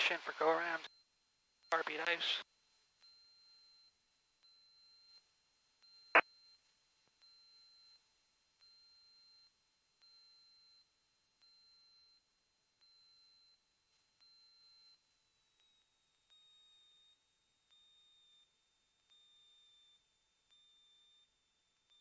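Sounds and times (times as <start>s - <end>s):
faint electronic beep: 0.5s - 5.2s, 7.2s - 22.0s.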